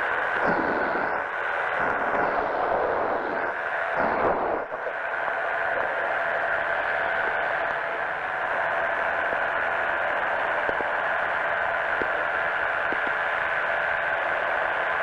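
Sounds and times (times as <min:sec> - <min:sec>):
engine drone through headset: 0:00.0 - 0:15.0.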